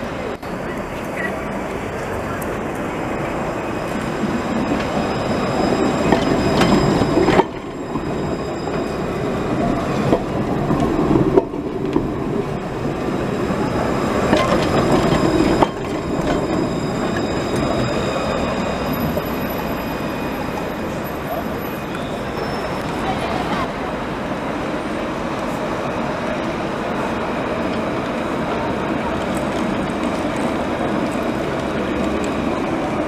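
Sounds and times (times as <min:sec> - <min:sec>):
tram rumbling on rails: 0:00.0 - 0:33.0
high wheel squeal: 0:00.6 - 0:27.6.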